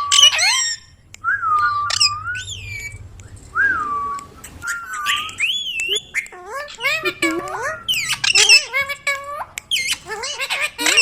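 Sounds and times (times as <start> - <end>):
parrot whistling: 0.0 - 11.0.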